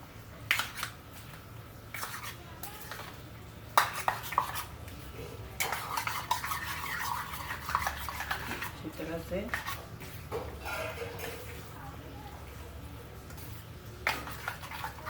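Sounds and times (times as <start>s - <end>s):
scraping and stirring in a bowl: 0.4s - 15.0s.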